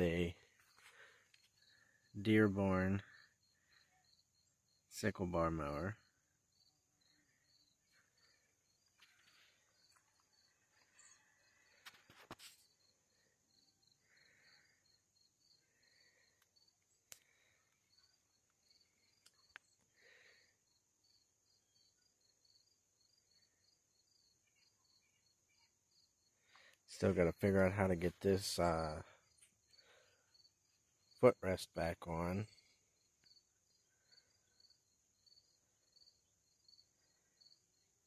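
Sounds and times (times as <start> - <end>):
faint crickets chirping: 0.0 - 38.0.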